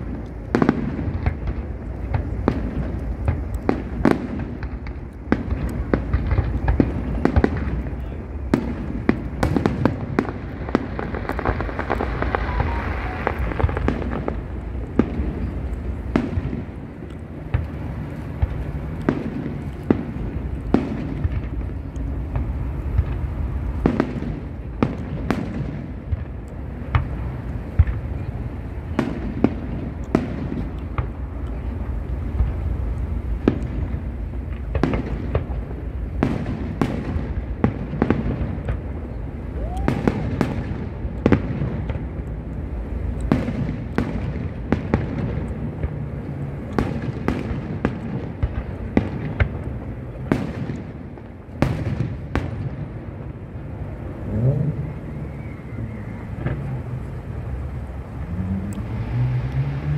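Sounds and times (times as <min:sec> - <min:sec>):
continuous rumble: 0:00.0 - 0:59.9.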